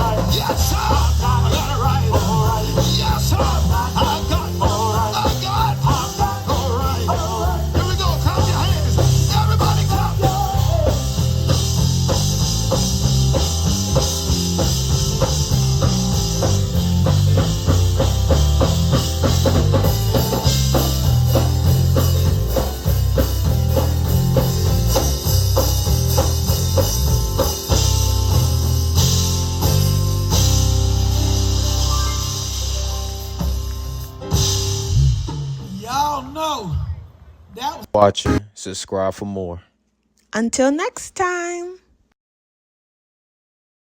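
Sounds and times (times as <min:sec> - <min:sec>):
organ: 0:00.0 - 0:35.3
electric bass line: 0:00.0 - 0:35.4, 0:38.0 - 0:38.5
drum kit beat: 0:00.0 - 0:36.4, 0:37.9 - 0:38.5.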